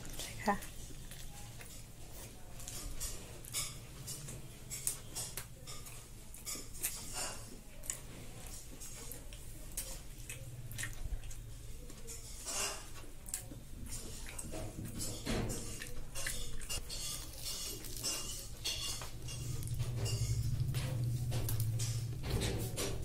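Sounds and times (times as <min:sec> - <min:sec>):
chewing food: 0:00.0 - 0:23.0.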